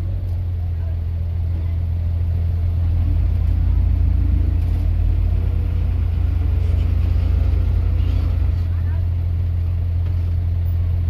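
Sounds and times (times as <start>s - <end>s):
heavy diesel engine rumbling: 0.0s - 11.0s.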